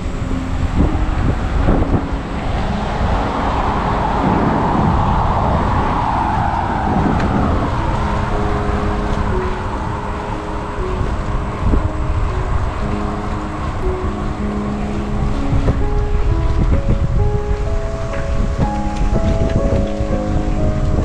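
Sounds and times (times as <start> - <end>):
car passing: 0.0 - 21.0
faint sustained music notes: 0.0 - 21.0
wind noise on microphone: 0.0 - 21.0.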